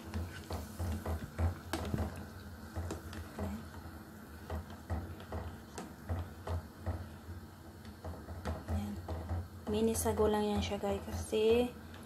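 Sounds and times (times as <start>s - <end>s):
plastic spatula knocking against pot: 0.0s - 12.0s.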